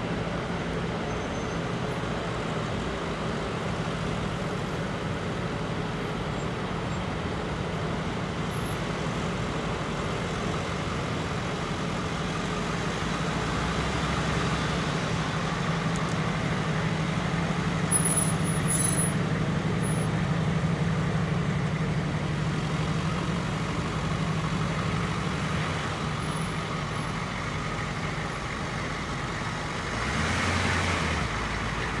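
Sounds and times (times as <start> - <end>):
ambulance engines humming: 0.0 - 32.0.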